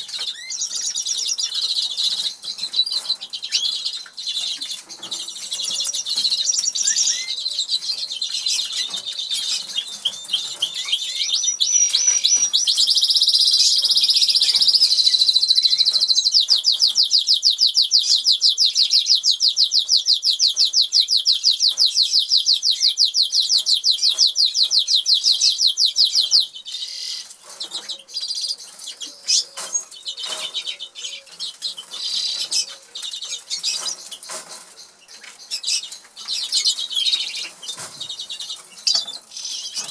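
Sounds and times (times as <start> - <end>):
canary singing and trilling: 0.0 - 39.9.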